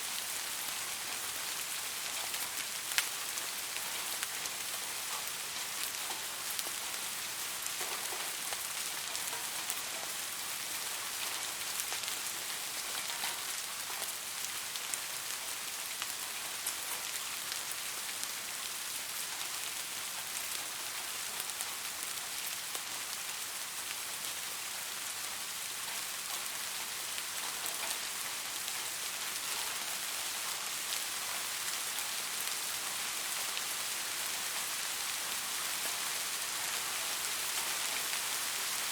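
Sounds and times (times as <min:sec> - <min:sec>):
soft steady rain: 0:00.0 - 0:38.9.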